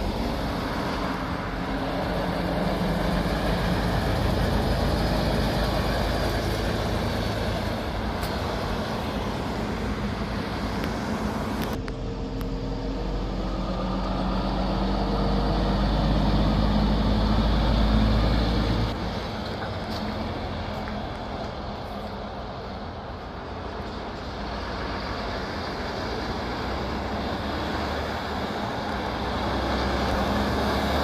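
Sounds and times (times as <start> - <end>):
diesel truck engine drone: 0.0 - 31.0
tyre and road noise: 0.0 - 31.0.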